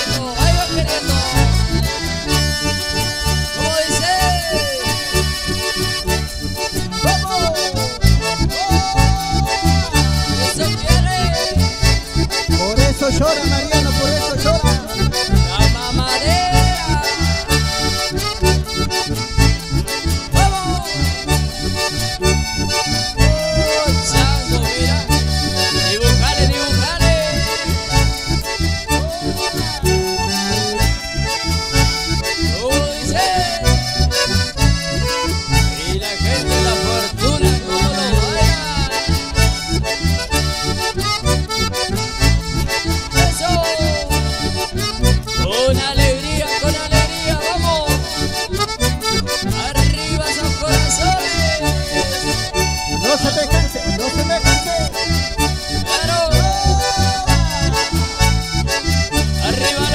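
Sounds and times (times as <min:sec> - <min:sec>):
acoustic guitar: 0:00.0 - 0:59.9
bandoneon and accordion melody: 0:00.0 - 0:59.9.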